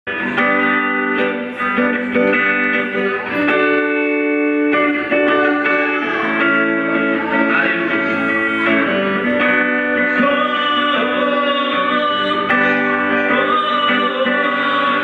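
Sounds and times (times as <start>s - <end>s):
guitar music with sustained notes: 0.1s - 15.0s.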